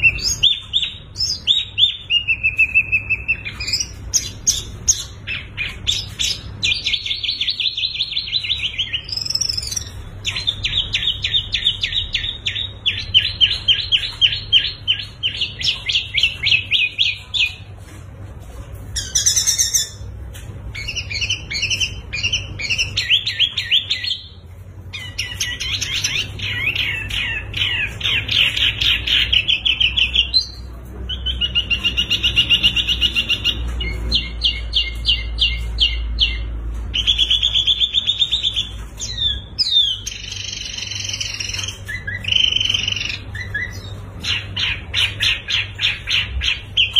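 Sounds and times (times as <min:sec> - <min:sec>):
songbirds chirping trills: 0:00.0 - 0:46.9.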